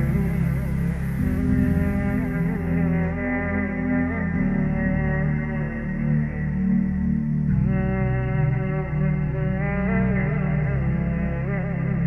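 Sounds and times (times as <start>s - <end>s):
slow sustained low music tones: 0.0s - 12.0s.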